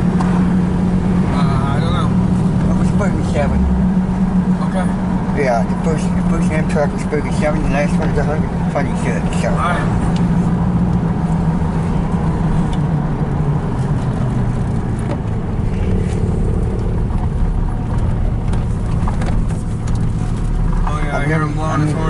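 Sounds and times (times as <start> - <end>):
car engine rumble inside cabin: 0.0 - 22.0.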